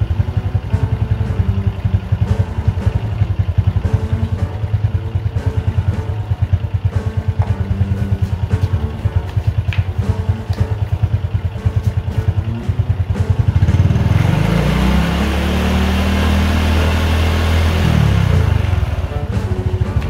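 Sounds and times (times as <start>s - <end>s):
small engine idling and revving: 0.0s - 20.0s.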